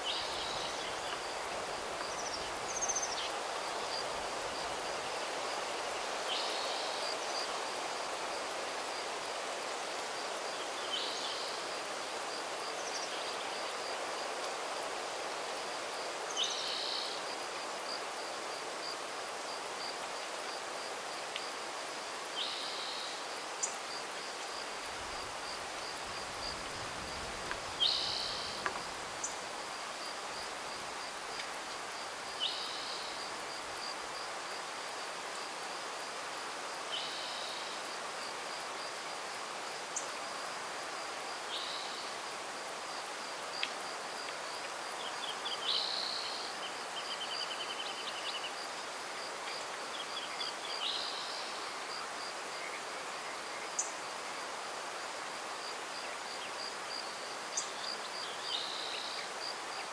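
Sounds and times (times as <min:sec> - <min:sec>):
faint hiss: 0:00.0 - 0:59.9.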